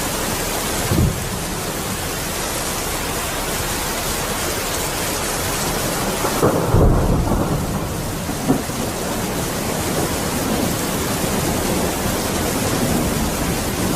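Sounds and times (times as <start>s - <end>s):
heavy rain pouring: 0.0s - 13.9s.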